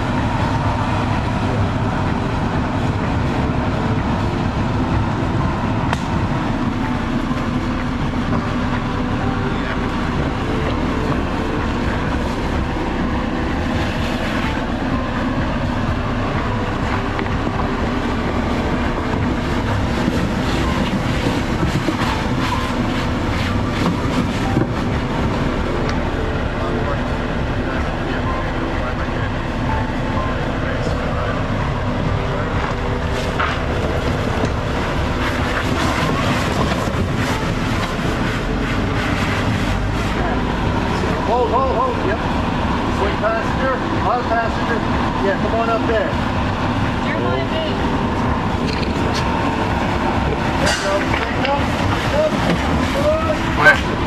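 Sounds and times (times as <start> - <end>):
engine and tyre drone: 0.0 - 54.0.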